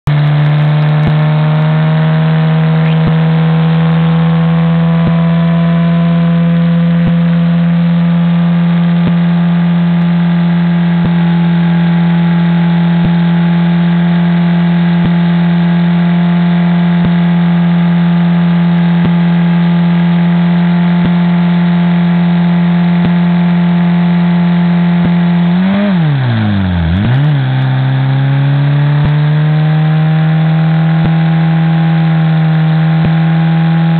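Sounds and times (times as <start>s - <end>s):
car engine revving high: 0.0s - 33.9s.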